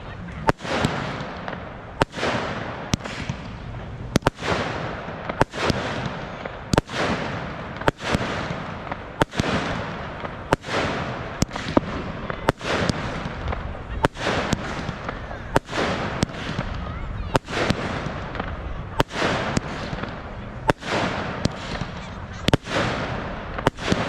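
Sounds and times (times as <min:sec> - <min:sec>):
crackling hiss of fireworks: 0:00.0 - 0:24.0
fireworks banging: 0:00.0 - 0:24.0.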